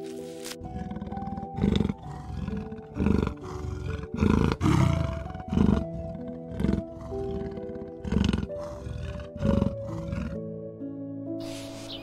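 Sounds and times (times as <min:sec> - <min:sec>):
soft background music: 0:00.0 - 0:12.0
leopard calling: 0:00.6 - 0:10.4.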